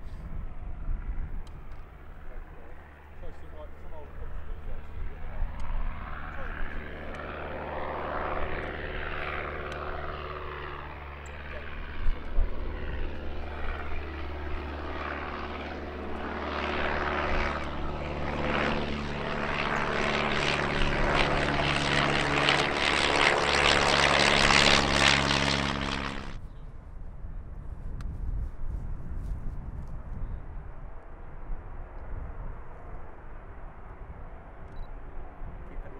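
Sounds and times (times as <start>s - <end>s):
propeller aircraft engine: 0.0s - 35.9s.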